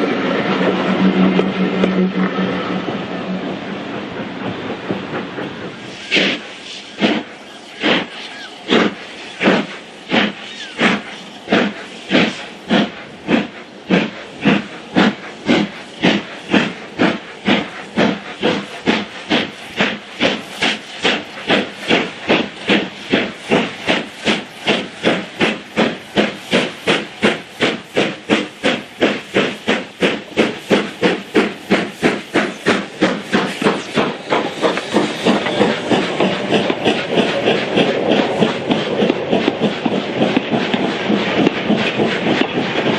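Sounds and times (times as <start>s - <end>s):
steam locomotive exhaust beats: 0.0s - 42.9s.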